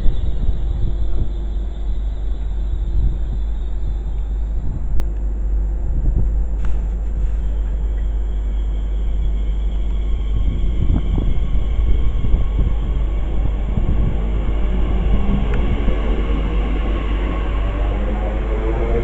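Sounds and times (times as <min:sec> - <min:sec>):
faint steady tones: 0:00.0 - 0:19.0
train rumbling: 0:00.0 - 0:19.0
wind buffeting microphone: 0:00.0 - 0:19.0.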